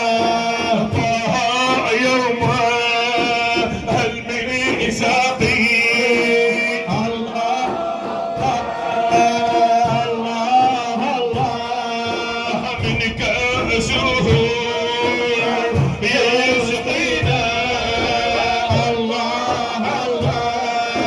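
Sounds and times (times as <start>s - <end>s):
low drum beats: 0.0s - 21.0s
man singing devotional chant: 0.0s - 21.0s.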